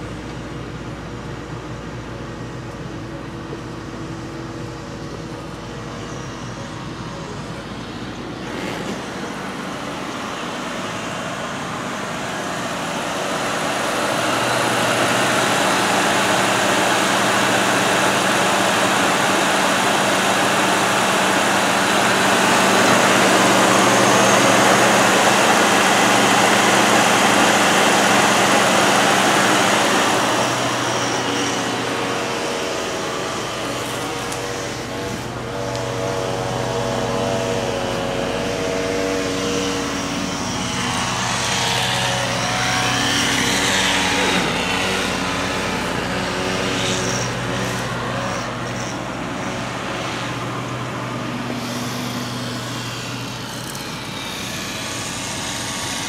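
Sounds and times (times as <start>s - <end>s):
car engine idling: 0.0s - 55.8s
engine hiss: 0.0s - 56.0s.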